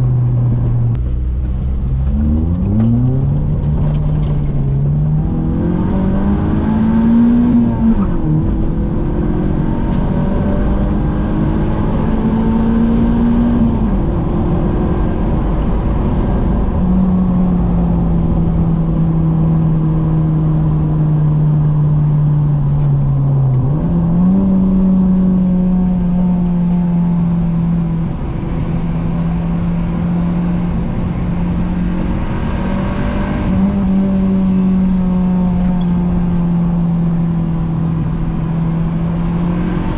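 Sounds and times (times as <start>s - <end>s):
car engine accelerating through gears: 0.0s - 39.9s
road noise: 0.0s - 39.9s.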